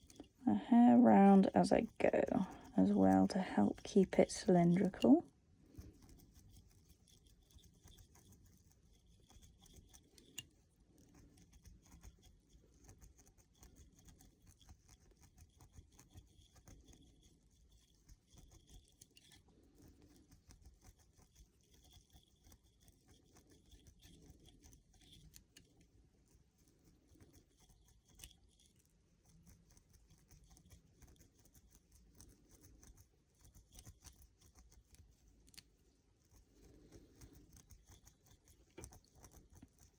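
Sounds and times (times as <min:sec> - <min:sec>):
crochet hook scratching hair: 0:00.0 - 0:39.9.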